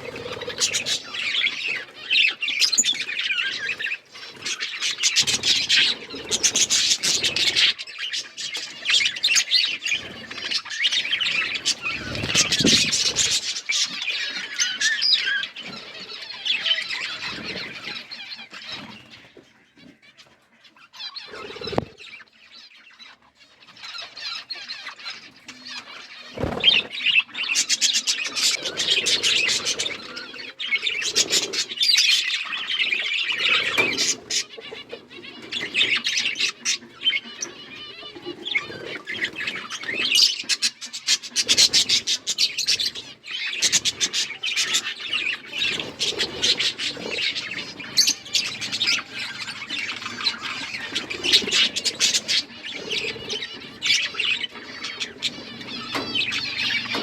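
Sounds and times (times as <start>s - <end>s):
budgerigars chattering and warbling: 0.0s - 57.0s.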